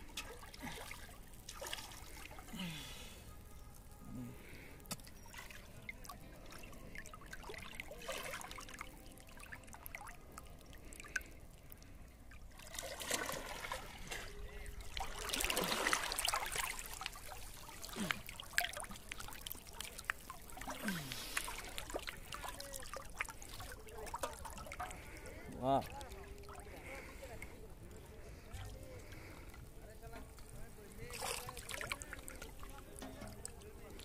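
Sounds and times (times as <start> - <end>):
river water sloshing and trickling: 0.0 - 34.0
water splashing: 0.0 - 34.0.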